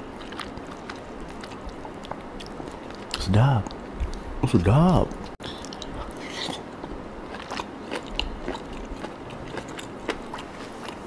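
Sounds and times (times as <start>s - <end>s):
person chewing food: 0.0s - 4.3s, 5.1s - 11.0s.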